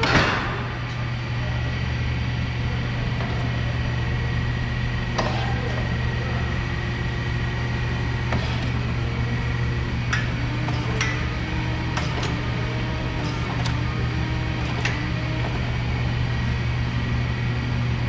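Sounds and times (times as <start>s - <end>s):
electric forklift hum and whine: 0.0s - 18.0s.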